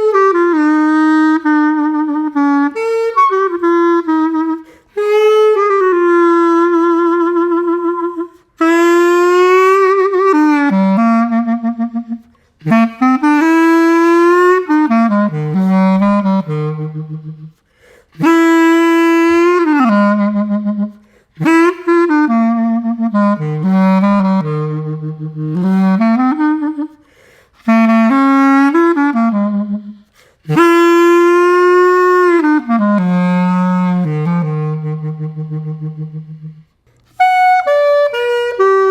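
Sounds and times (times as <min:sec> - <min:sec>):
plastic clarinet playing: 0:00.0 - 0:38.9.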